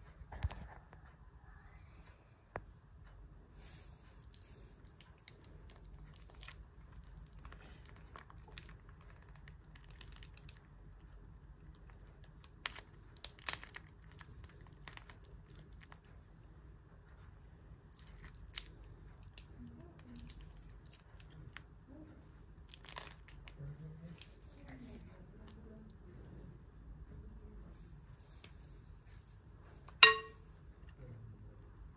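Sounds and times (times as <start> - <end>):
low steady hum: 0.0 - 31.9.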